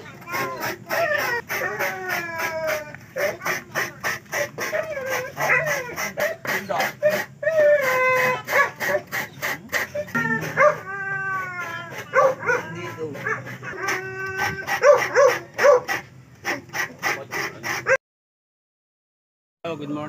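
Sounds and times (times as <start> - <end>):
dog whining: 0.0 - 3.7, 4.4 - 18.0
dog barking and yelping: 0.3 - 18.0.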